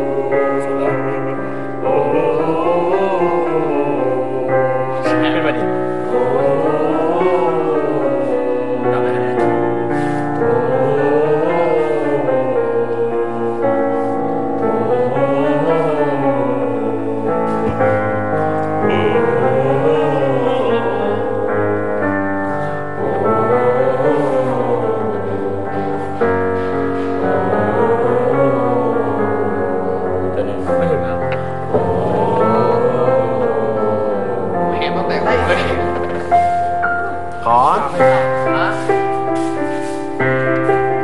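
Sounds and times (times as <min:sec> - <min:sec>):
group singing scales: 0:00.0 - 0:41.0
piano chords: 0:00.0 - 0:41.0.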